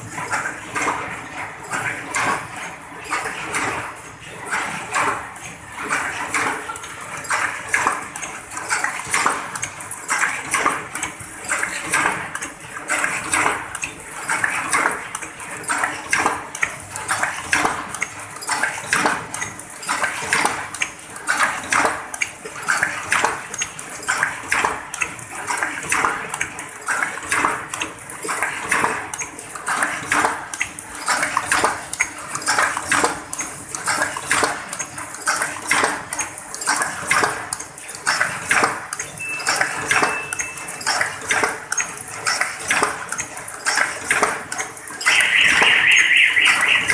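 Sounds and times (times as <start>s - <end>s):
machine metallic clatter: 0.0s - 46.9s.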